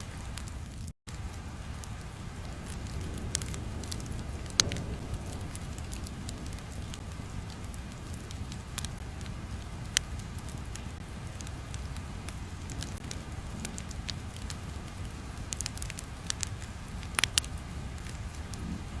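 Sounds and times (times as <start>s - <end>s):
small crackles: 0.0s - 19.0s
low rumble: 0.2s - 19.0s
sharp pops: 2.6s - 18.7s.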